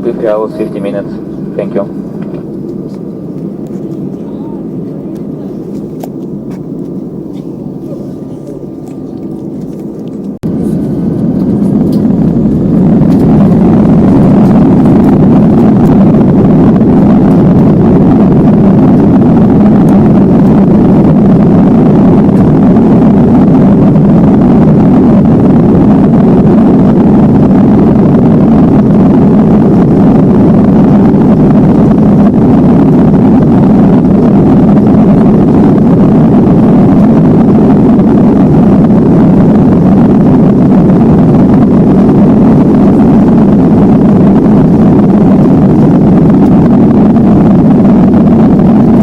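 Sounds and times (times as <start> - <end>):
jet engine cabin rumble: 0.0 - 49.0.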